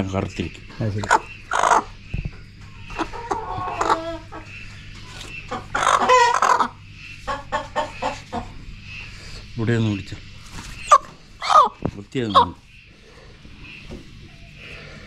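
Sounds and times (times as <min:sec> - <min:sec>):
chicken clucking and squawking: 0:00.0 - 0:15.0.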